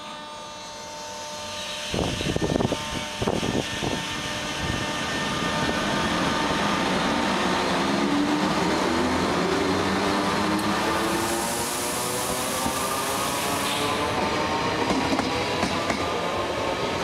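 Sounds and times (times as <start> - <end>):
electric locomotive motor whine: 0.0 - 17.0
train rumble: 2.0 - 17.0.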